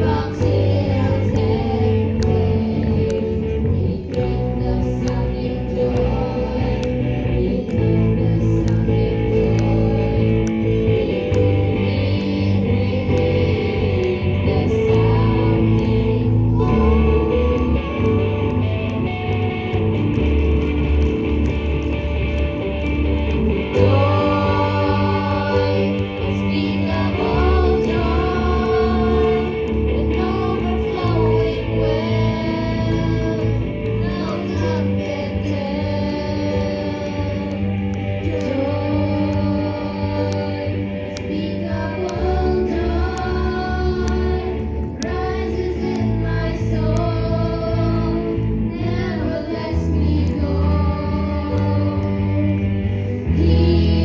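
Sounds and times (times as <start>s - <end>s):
people singing: 0.0s - 19.4s, 23.3s - 54.0s
electric bass: 0.0s - 54.0s
electric guitar: 0.0s - 54.0s.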